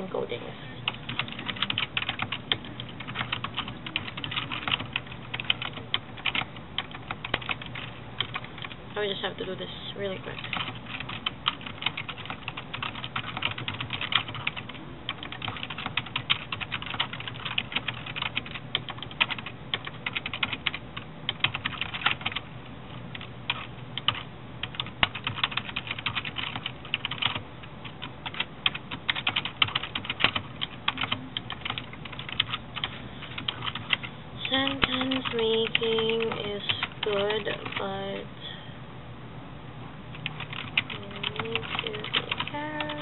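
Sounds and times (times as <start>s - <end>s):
low steady hum: 0.0s - 43.0s
fast typing on keyboard: 0.8s - 9.4s, 10.0s - 22.5s, 23.1s - 37.8s, 40.1s - 43.0s.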